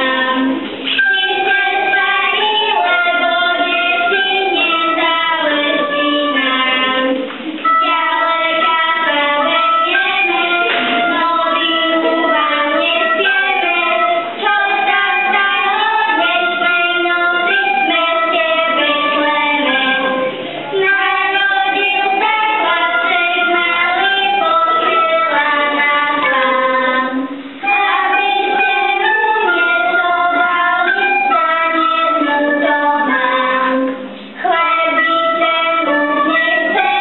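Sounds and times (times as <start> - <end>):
children singing a carol: 0.0 - 37.0.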